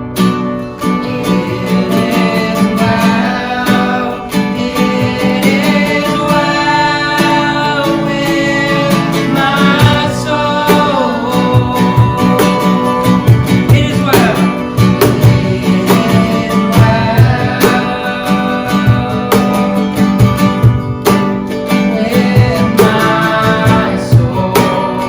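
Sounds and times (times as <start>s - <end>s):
acoustic guitar: 0.0s - 25.0s
worship band music: 0.0s - 25.0s
low drum beat: 1.2s - 6.7s, 9.4s - 21.4s, 22.2s - 25.0s.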